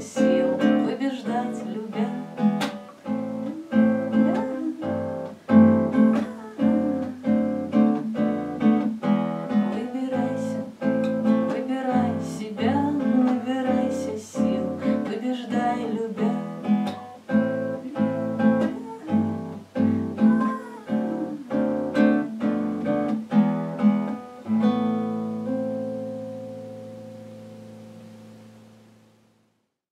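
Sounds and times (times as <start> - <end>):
acoustic guitar strumming: 0.0 - 29.2.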